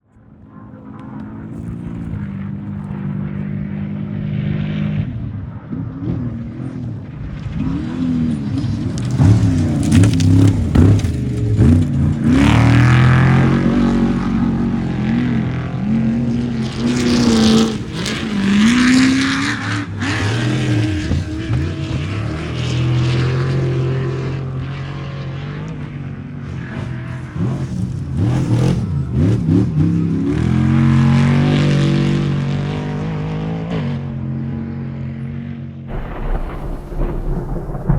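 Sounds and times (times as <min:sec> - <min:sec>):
truck engines revving: 0:00.5 - 0:37.9.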